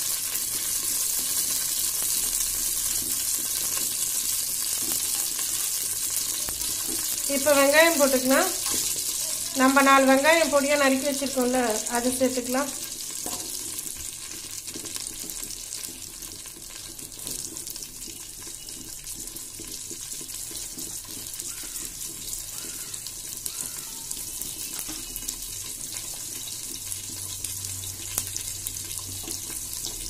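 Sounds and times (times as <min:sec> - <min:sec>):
onions sizzling in hot oil: 0:00.0 - 0:30.0.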